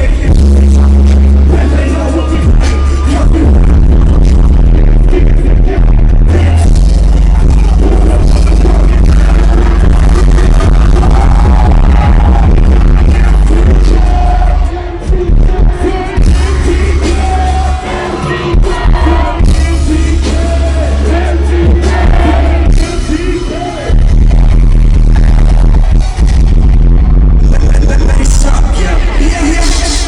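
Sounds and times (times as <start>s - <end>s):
hip-hop music over a pa: 0.0s - 30.0s.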